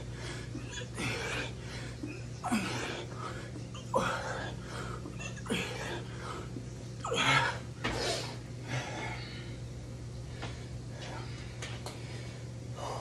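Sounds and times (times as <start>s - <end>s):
low hum: 0.0s - 13.0s
man breathing heavily: 0.0s - 13.0s.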